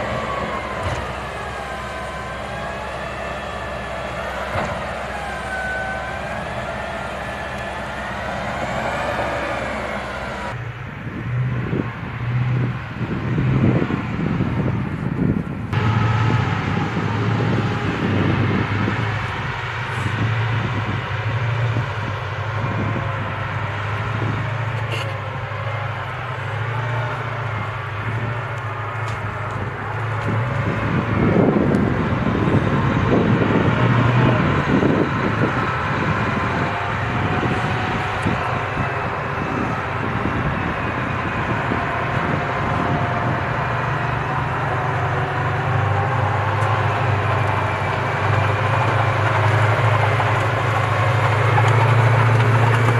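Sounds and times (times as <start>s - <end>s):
armored vehicle engine whine: 0.0s - 52.9s
pulsing low engine hum: 0.0s - 52.9s
wind buffeting microphone: 0.0s - 52.9s.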